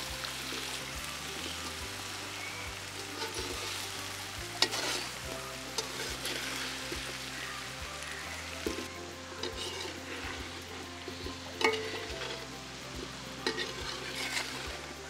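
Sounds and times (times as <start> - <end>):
vegetables sizzling in oil: 0.0 - 15.0
metal spatula scraping a pan: 0.2 - 15.0.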